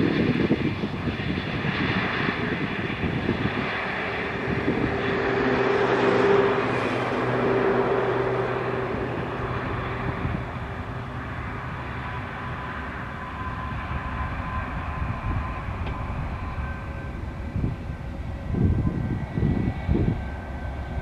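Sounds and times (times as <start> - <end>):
jet engines rushing with whine: 0.0 - 21.0.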